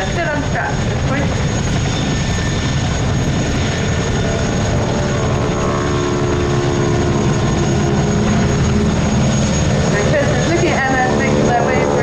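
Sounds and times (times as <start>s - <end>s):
biplane engines and propellers: 0.0s - 12.0s.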